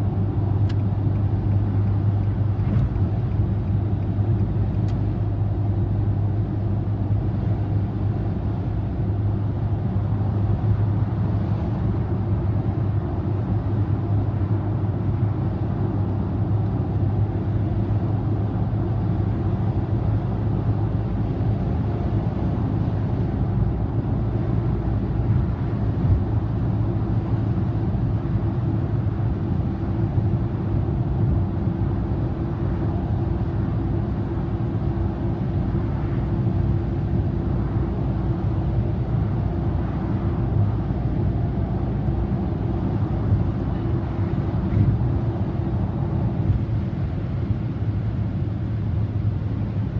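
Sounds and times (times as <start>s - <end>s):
car road and engine drone: 0.0s - 49.9s.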